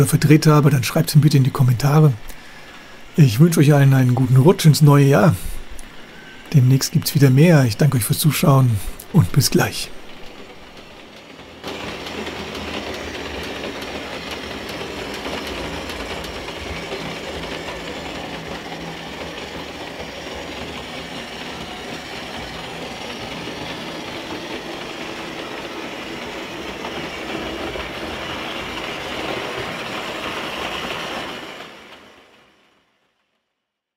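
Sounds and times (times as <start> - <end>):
model train wheels clattering: 0.0 - 32.7.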